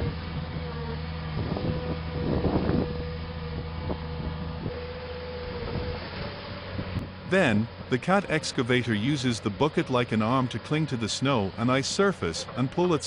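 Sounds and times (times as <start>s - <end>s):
heavy vehicle engine whining: 0.0s - 13.0s.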